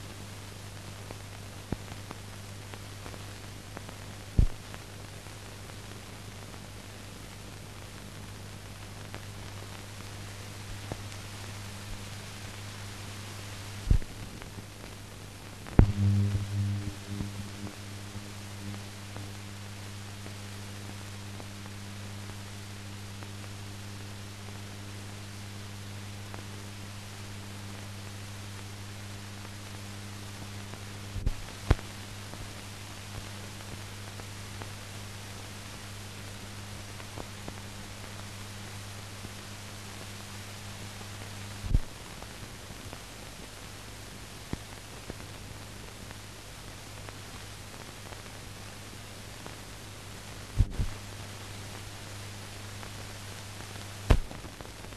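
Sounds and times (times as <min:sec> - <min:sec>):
low electrical hum: 0:00.0 - 0:54.9
steady hiss: 0:00.0 - 0:54.9.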